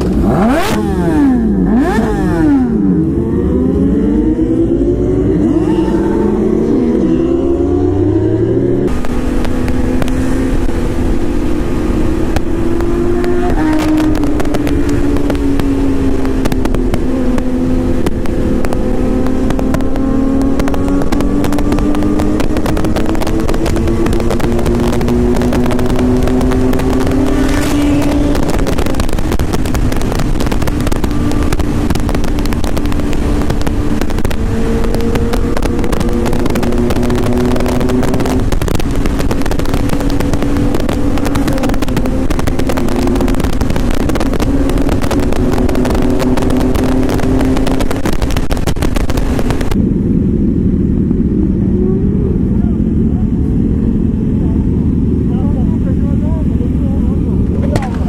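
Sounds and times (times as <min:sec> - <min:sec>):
heavy wind rush: 0:00.0 - 0:58.0
motorcycle engine pulling hard: 0:00.0 - 0:58.0.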